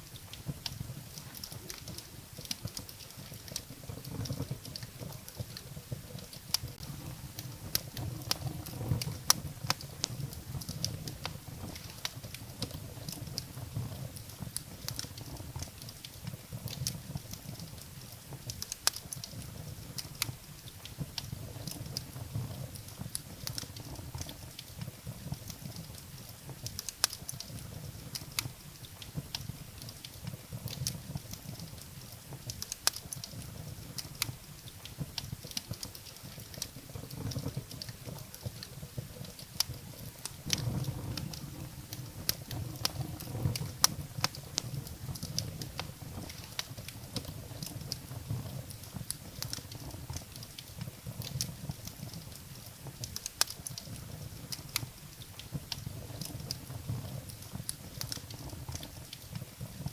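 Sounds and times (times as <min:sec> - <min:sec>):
firewood crackling and popping: 0:00.0 - 0:59.9
low rumble of flames: 0:00.0 - 0:59.9.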